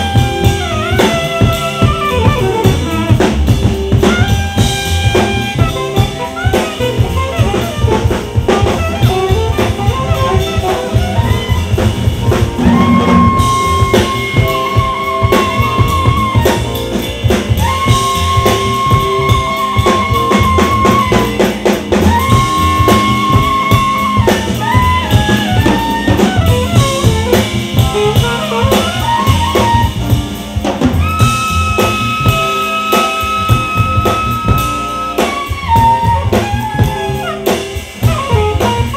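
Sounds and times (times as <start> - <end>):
jazz-funk band with drums: 0.0 - 38.9
saxophone solo: 0.0 - 38.9.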